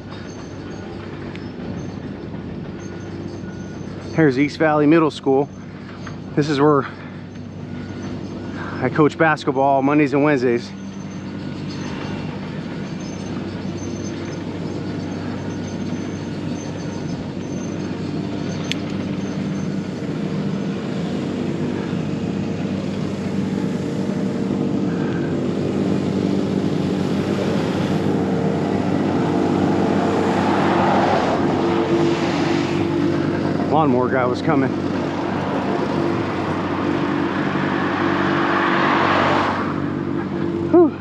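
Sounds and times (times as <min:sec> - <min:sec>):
lawnmower engine running: 0:00.0 - 0:41.0.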